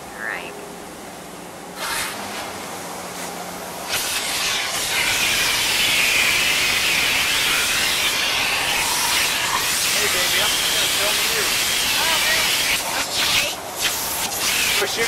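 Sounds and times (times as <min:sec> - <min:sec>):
vacuum rushing air hiss: 0:01.7 - 0:15.0.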